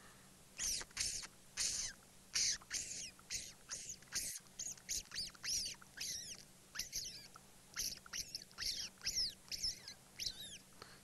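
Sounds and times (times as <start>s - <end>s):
person making squeaks with lips: 0.6s - 10.6s.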